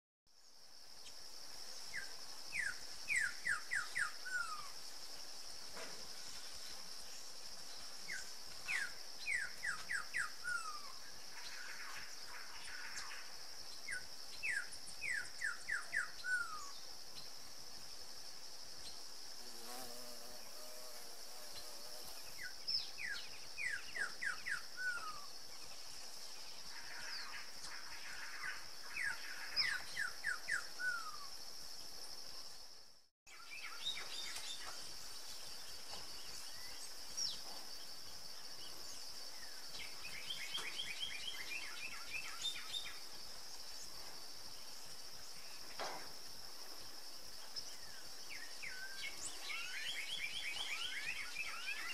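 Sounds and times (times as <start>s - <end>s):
insects droning: 0.3s - 51.9s.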